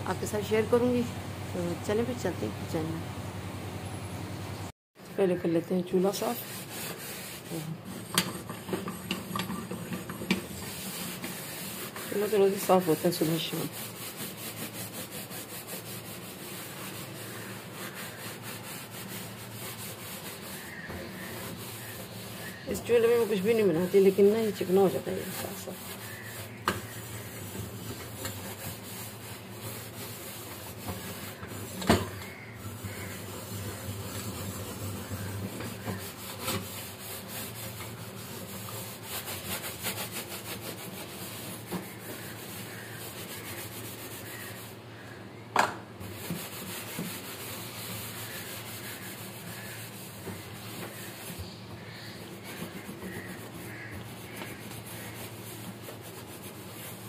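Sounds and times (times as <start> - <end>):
steel wool scrubbing glass: 6.0 - 44.8, 46.0 - 57.0.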